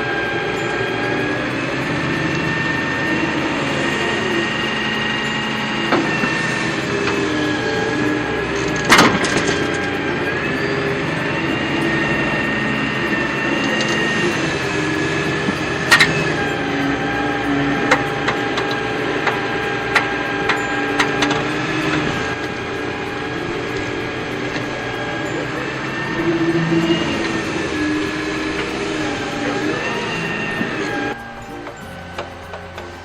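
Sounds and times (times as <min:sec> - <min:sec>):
toy gear motors whining: 0:00.0 - 0:33.0.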